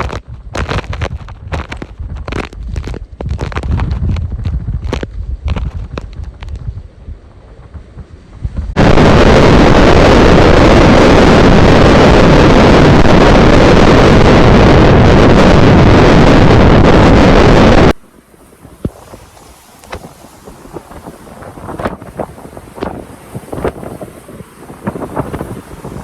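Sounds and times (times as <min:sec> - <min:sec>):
hurricane wind blasting microphone: 0:00.0 - 0:26.0.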